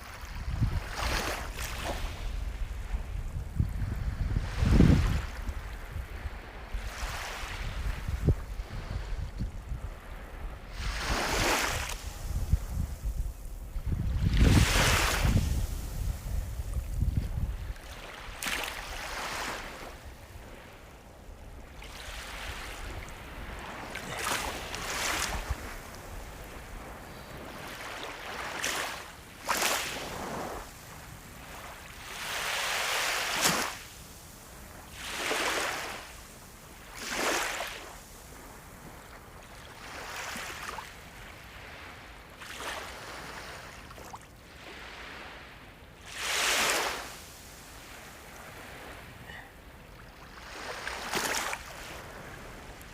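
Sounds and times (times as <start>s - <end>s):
sea waves washing in: 0.0s - 52.9s.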